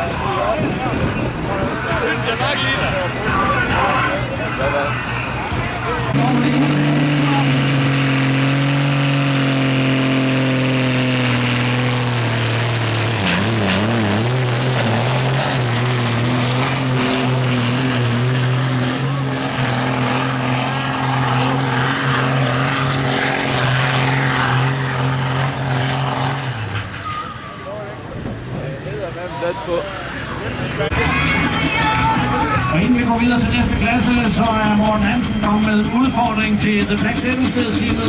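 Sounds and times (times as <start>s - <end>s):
tractor diesel engine under load: 0.0s - 38.0s.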